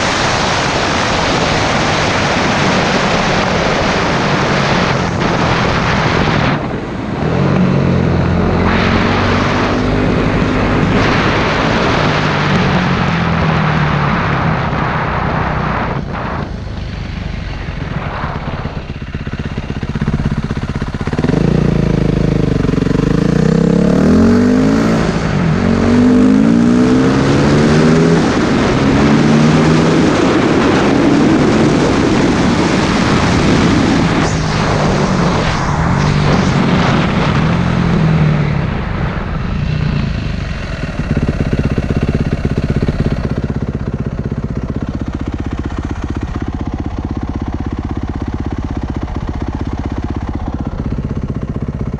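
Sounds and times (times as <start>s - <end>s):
motorcycle engine revving: 0.0s - 51.9s
wind rush on microphone: 0.0s - 51.9s.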